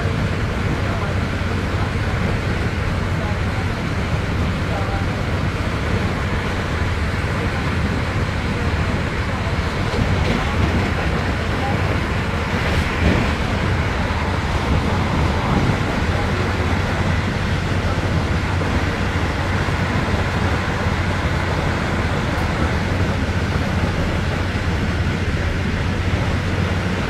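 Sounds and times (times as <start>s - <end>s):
train rumbling at speed: 0.0s - 27.0s.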